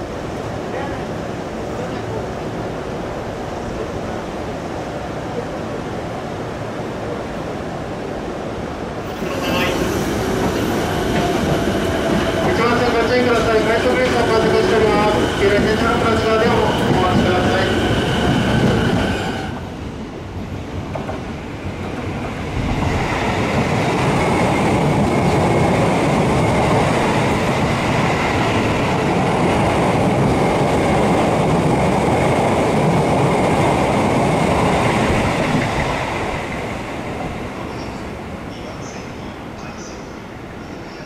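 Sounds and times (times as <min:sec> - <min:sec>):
electric train running past: 0:05.9 - 0:41.0.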